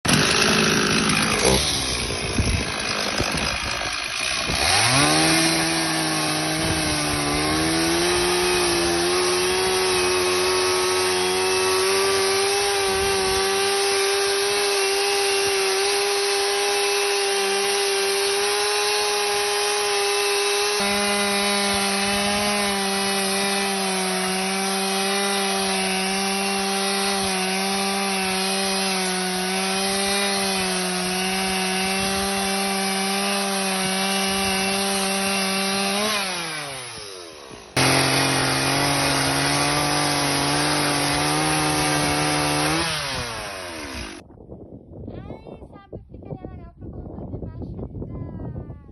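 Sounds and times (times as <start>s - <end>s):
motor saw cutting wood: 0.1s - 44.2s.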